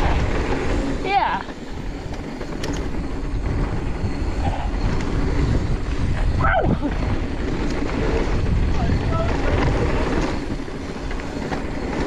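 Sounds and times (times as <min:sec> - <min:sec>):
bike trail rumble: 0:00.0 - 0:12.0
wind on camera: 0:00.0 - 0:12.0.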